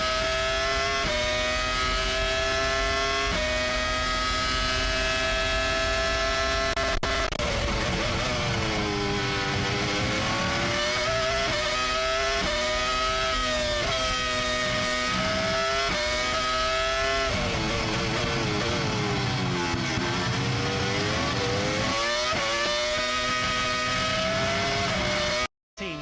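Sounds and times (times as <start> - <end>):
racing car engine accelerating: 0.0 - 25.5.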